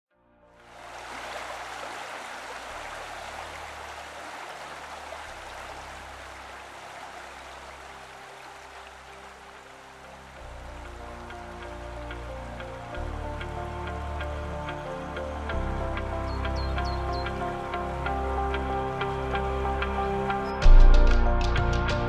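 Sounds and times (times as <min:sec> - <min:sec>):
low sustained music notes: 0:00.5 - 0:22.0
waterfall rushing: 0:00.6 - 0:20.5.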